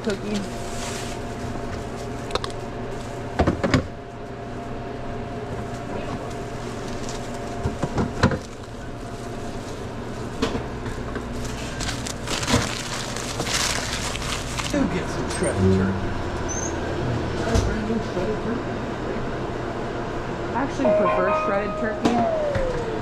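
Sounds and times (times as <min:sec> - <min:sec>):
restaurant equipment hum: 0:00.0 - 0:23.0.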